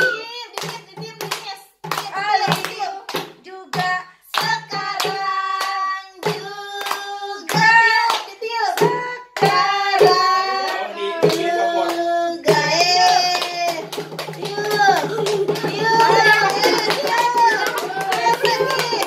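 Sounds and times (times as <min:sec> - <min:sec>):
group singing a celebration song: 0:00.0 - 0:19.0
hands clapping in time: 0:00.0 - 0:19.0.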